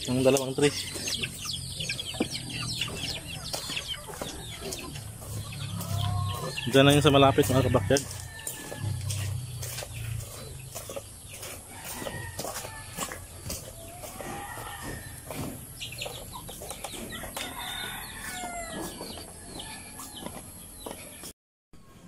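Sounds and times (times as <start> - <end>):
chickens clucking: 0.0 - 21.3
light footsteps: 0.1 - 21.3.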